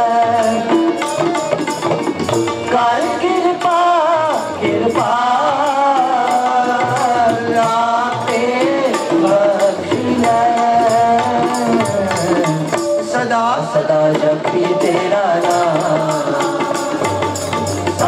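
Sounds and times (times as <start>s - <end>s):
harmonium: 0.0s - 18.0s
tabla drums: 0.0s - 18.0s
voices singing devotional song: 0.0s - 18.0s.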